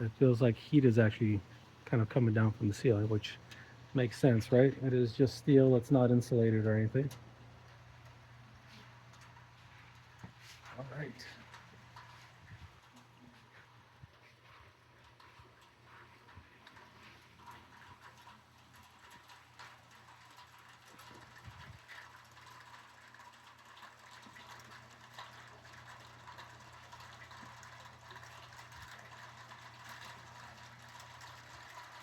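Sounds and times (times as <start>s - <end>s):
light rain on metal roof: 0.0s - 32.0s.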